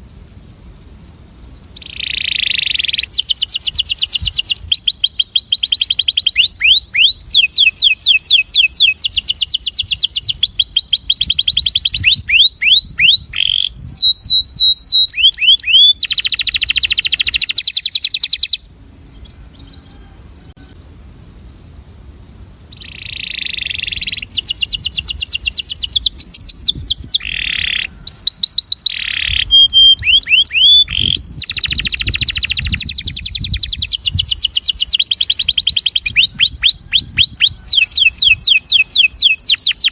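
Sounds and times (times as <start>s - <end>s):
canary singing trills: 0.0s - 21.2s, 22.6s - 39.9s.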